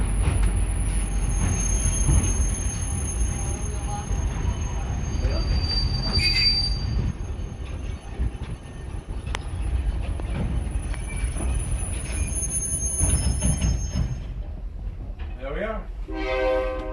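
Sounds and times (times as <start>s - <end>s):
train car rumbling on track: 0.0s - 16.9s.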